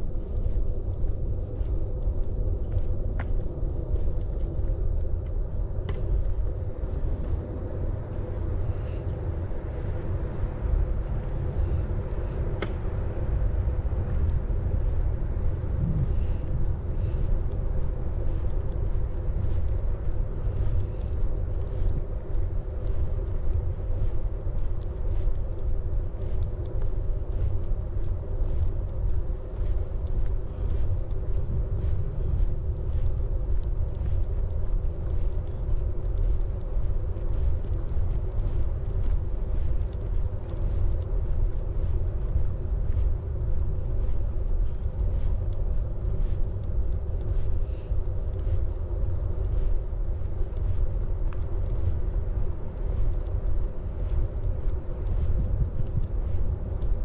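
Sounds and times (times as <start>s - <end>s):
faint hum: 0.0s - 57.0s
footsteps walking: 0.0s - 57.0s
steady low rumble: 0.0s - 57.0s.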